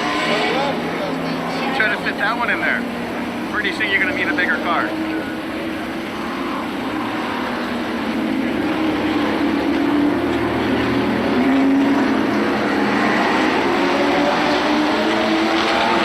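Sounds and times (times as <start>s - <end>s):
engines droning: 0.0s - 16.0s.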